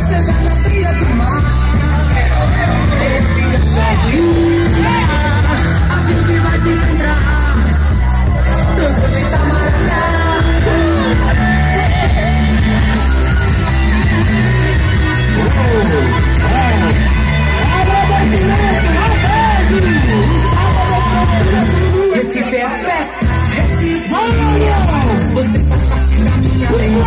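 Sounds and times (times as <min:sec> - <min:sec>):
heavy bass beat: 0:00.0 - 0:22.3, 0:23.2 - 0:27.0
loud party music with singing: 0:00.0 - 0:27.0.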